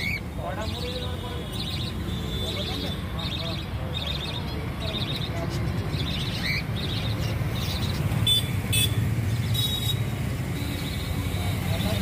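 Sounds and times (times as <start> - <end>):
birds chirping: 0.0 - 12.0
harsh bird calls: 0.0 - 12.0.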